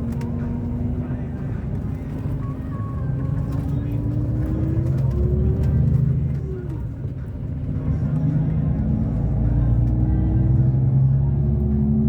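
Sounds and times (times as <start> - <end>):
coach engine: 0.0 - 11.8
road noise: 0.0 - 12.0.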